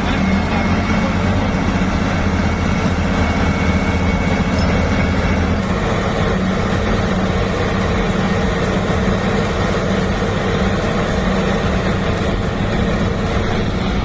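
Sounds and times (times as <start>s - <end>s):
heavy vehicle engines droning: 0.0s - 14.0s.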